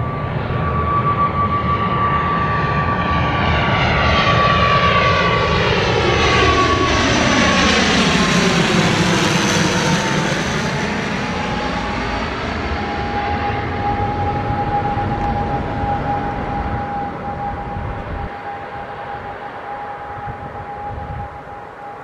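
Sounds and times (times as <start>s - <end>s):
propeller drone with high whine: 0.0s - 22.0s
turboprop airliner flying overhead: 0.0s - 22.0s.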